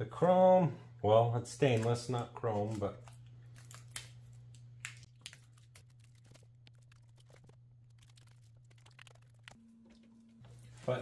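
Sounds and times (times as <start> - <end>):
plastic film peeling crackle: 1.6 - 11.0.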